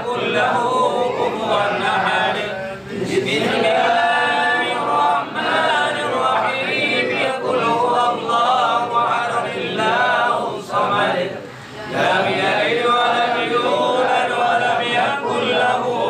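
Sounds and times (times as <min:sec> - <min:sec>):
men chanting prayers in unison: 0:00.0 - 0:16.0.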